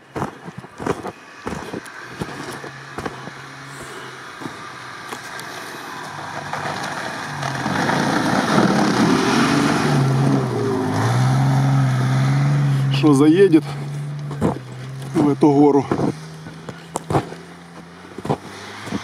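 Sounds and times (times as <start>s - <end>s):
off-road vehicle engine revving: 0.0s - 19.0s
tyres churning snow: 0.0s - 19.0s.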